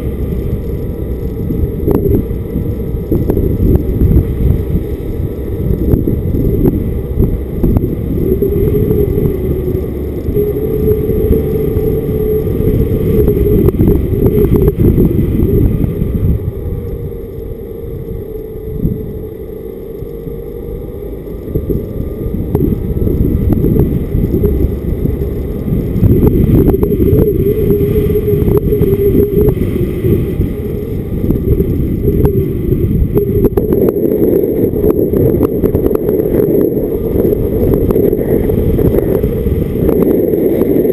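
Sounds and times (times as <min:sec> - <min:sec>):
car engine: 0:00.0 - 0:40.9
heavy wind rumble: 0:00.0 - 0:40.9.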